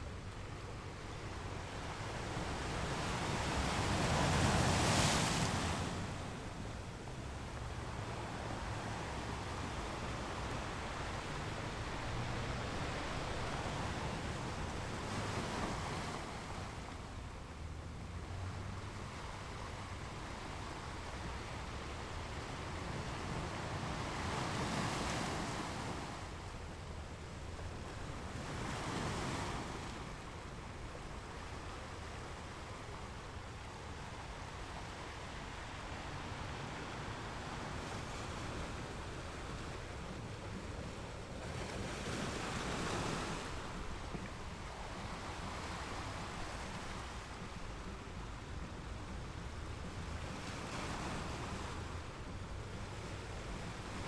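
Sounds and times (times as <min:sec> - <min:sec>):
ocean waves washing over shore: 0:01.3 - 0:54.0.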